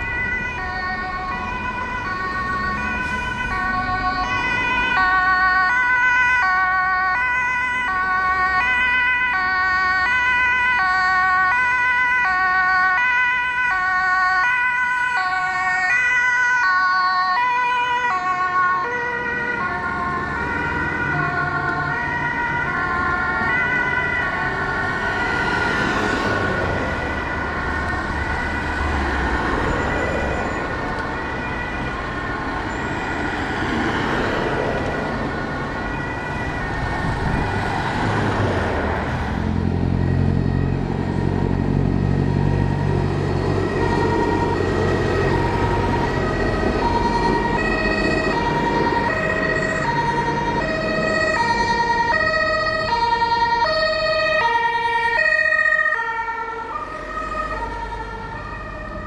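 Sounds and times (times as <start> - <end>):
heavy vehicle engine and tyres: 0.0 - 59.0
two-tone emergency sirens: 0.0 - 59.0.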